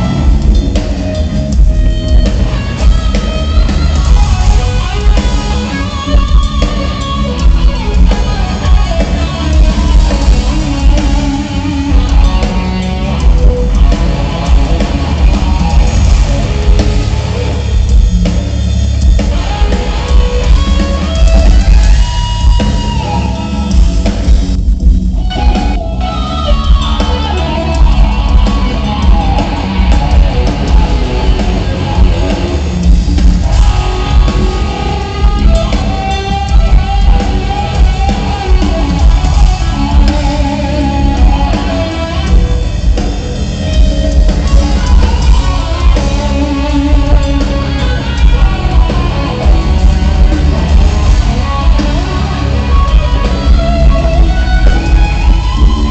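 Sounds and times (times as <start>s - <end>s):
drum kit: 0.0s - 55.9s
electric guitar: 0.0s - 55.9s.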